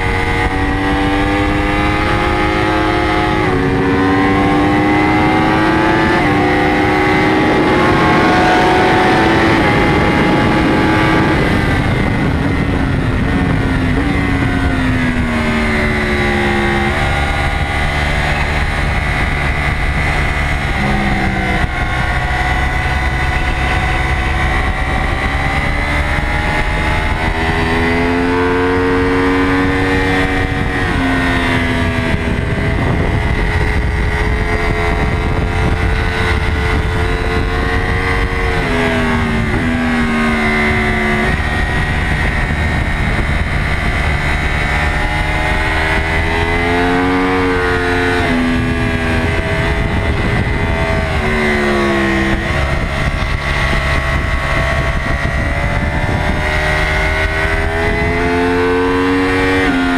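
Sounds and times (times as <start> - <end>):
motorcycle engine at high revs: 0.0 - 59.9
wind rushing: 0.0 - 59.9.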